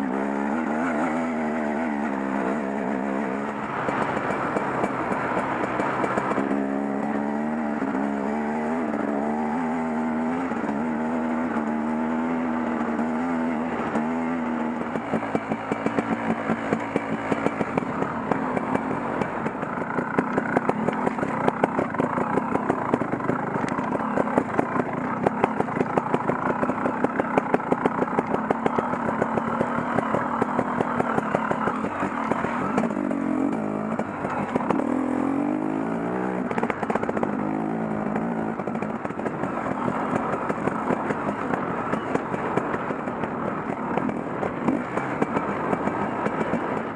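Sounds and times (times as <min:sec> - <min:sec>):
dirt bike engine: 0:00.0 - 0:46.9.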